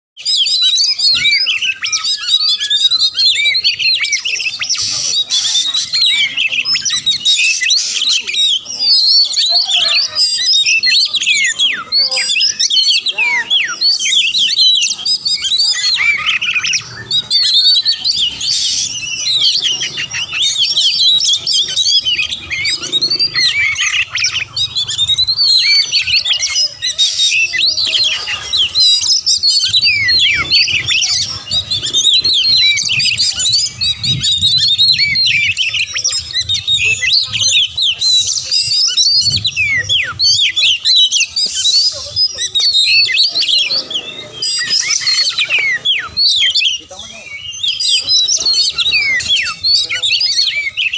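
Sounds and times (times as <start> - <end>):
bird singing rapid chirps: 0.2 - 50.9.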